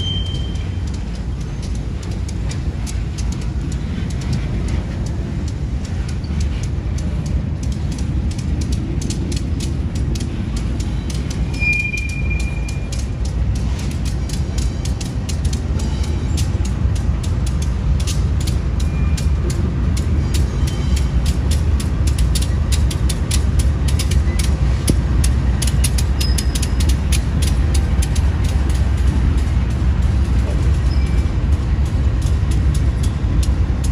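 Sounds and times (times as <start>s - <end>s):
freight train rumbling past: 0.0s - 33.9s
wheel clicks over rail joints: 0.0s - 33.9s.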